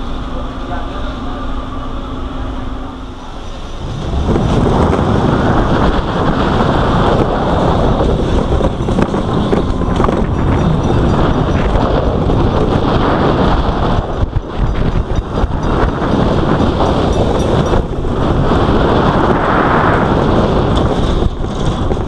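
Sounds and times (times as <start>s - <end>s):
roller coaster rumbling on track: 0.0s - 22.0s
wind rushing over microphone: 1.1s - 22.0s.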